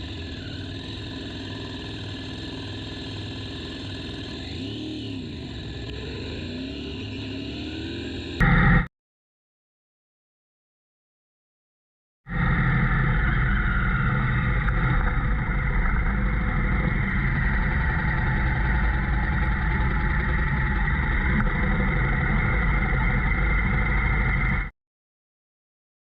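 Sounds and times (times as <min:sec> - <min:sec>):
motorcycle engine running: 0:00.0 - 0:08.9, 0:12.4 - 0:24.7.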